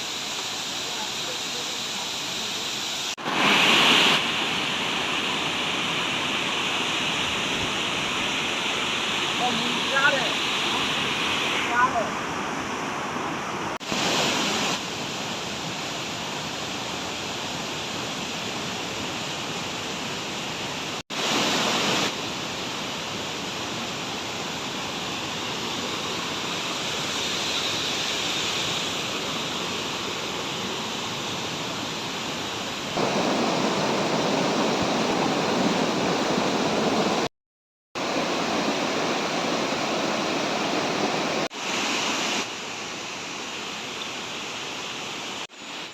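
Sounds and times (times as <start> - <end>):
waterfall rushing: 0.0 - 15.1, 20.9 - 37.3, 38.0 - 45.9.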